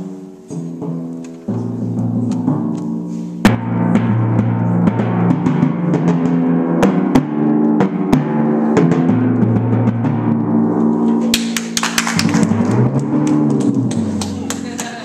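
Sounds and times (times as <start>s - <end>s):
timpani strokes and rolls: 0.0s - 15.0s.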